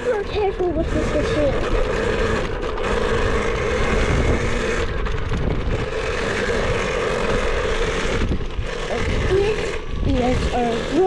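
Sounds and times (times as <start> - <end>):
dirt bike engine running: 0.0 - 11.0
wind buffeting microphone: 0.0 - 11.0.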